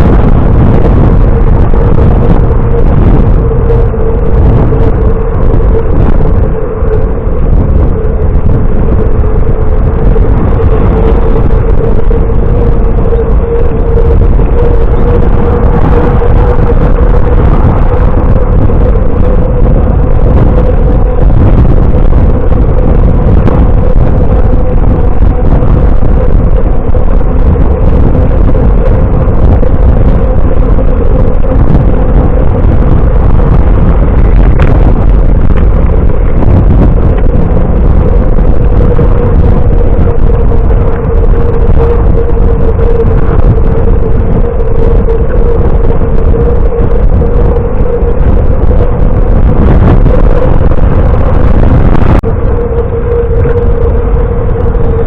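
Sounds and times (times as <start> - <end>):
mid-pitched hum: 0.0 - 55.0
wind rushing over microphone: 0.0 - 55.0.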